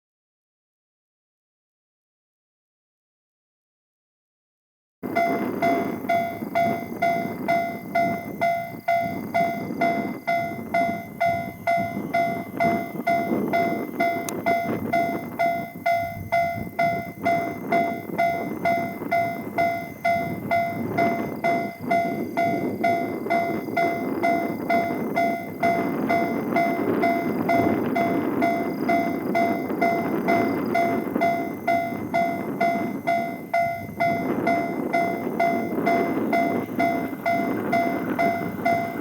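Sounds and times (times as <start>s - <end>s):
level crossing alarm bell: 5.0s - 39.0s.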